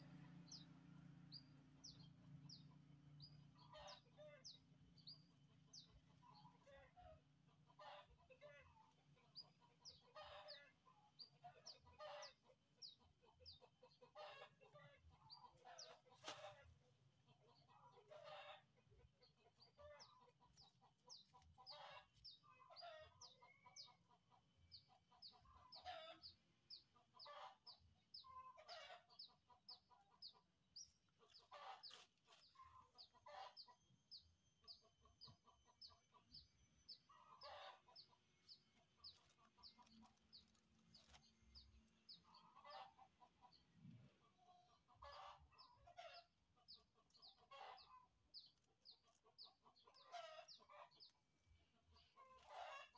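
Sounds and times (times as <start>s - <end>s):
faint chickens clucking: 0.0s - 52.9s.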